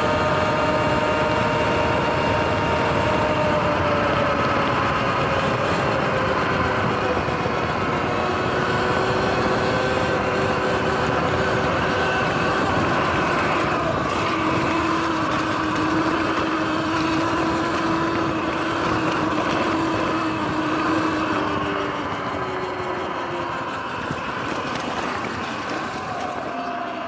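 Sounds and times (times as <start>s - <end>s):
electric motor whine: 0.0s - 27.0s
wind: 0.0s - 27.0s.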